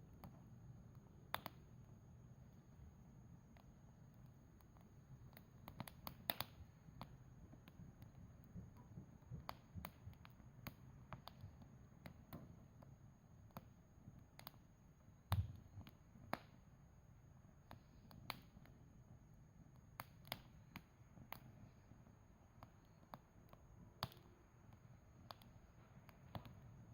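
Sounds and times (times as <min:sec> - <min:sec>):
campfire crackling: 0:00.0 - 0:26.9
fire pops and snaps: 0:00.1 - 0:01.8, 0:03.5 - 0:16.7, 0:17.6 - 0:18.8, 0:19.7 - 0:26.9.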